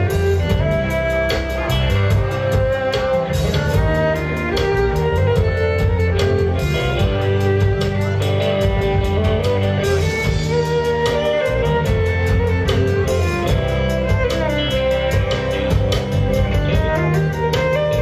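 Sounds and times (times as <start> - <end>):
bass guitar: 0.0 - 18.0
drums keeping a beat: 0.0 - 18.0
electric guitar: 0.0 - 18.0
fiddle melody: 0.0 - 18.0.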